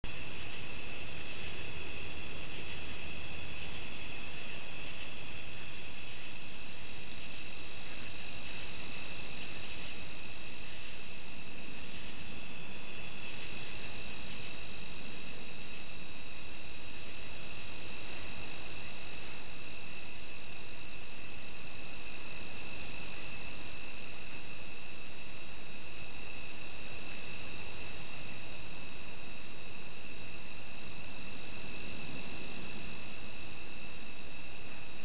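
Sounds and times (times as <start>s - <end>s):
crickets trilling: 0.1s - 35.0s
high insect chirp: 0.1s - 35.0s.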